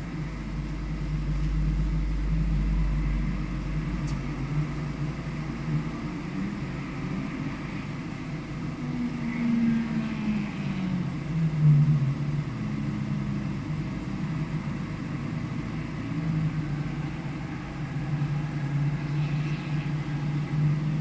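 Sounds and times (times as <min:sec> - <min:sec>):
race car engine at speed: 0:00.0 - 0:21.0
wind rumble on microphone: 0:00.0 - 0:21.0.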